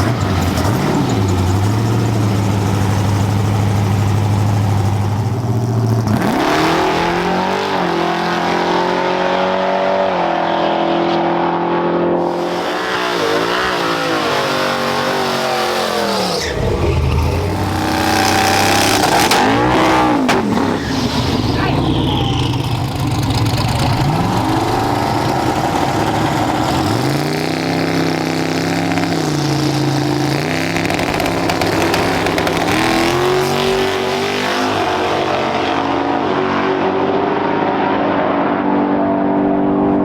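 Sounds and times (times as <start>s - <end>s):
truck engine revving: 0.0s - 10.4s, 12.2s - 38.3s.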